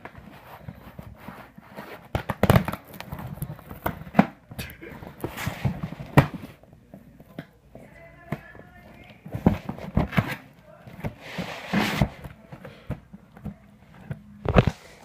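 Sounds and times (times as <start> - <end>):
rustling and scraping: 0.0 - 15.0.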